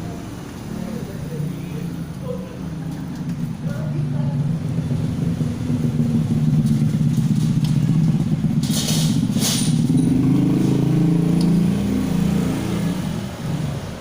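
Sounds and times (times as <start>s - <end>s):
motor vehicle engine running: 0.0s - 14.0s.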